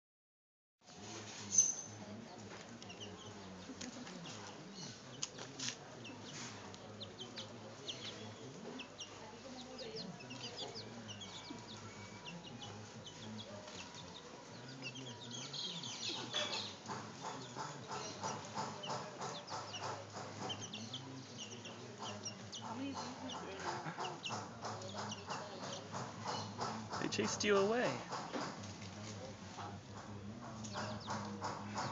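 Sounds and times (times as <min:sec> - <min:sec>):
chicks peeping: 0:01.5 - 0:31.9.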